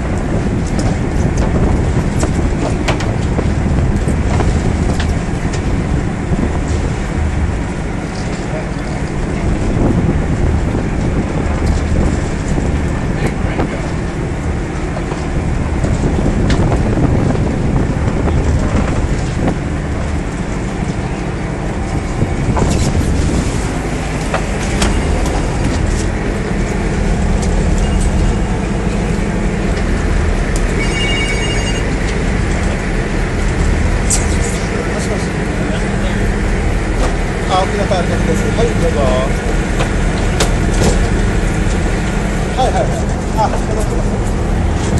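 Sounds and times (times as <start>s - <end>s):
boat engine droning: 0.0s - 44.9s
water and wind rushing: 0.0s - 44.9s.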